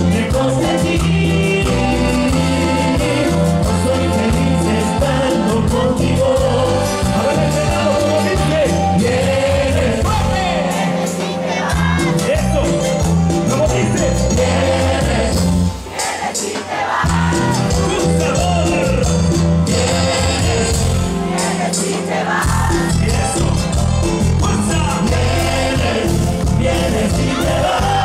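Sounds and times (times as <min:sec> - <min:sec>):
man singing: 0:00.0 - 0:15.4, 0:17.3 - 0:21.0, 0:22.5 - 0:28.0
live band playing: 0:00.0 - 0:28.0.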